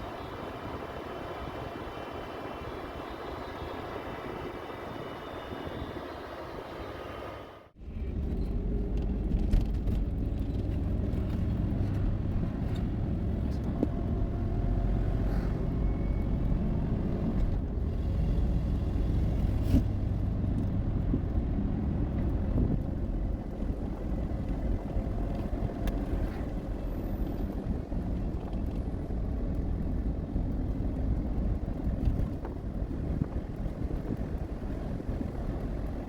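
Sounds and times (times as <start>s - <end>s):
vehicle road and engine rumble: 0.0s - 36.0s.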